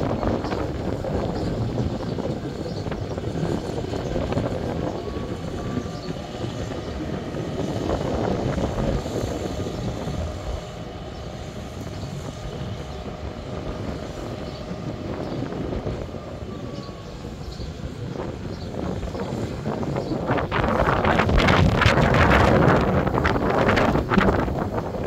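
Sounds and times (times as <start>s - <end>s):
diesel engine rumble: 0.0s - 25.0s
wheels on rails: 0.0s - 25.0s.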